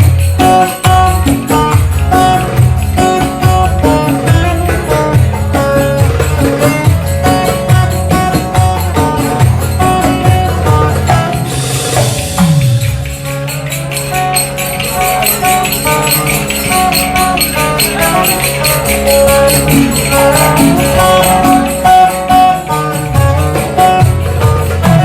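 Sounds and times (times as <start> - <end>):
folk melody of held notes: 0.0 - 25.0
small cymbals jingling: 0.0 - 25.0.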